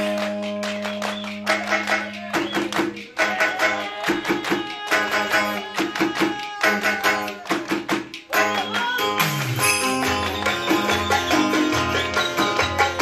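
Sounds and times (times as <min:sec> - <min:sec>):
hand drums: 0:00.0 - 0:13.0
plucked string instruments: 0:00.0 - 0:13.0.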